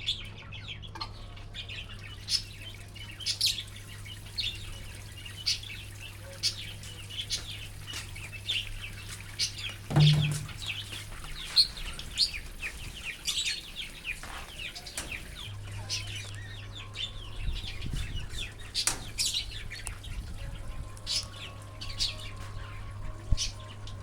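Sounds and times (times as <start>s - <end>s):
budgies chirping and chattering: 0.0s - 24.0s.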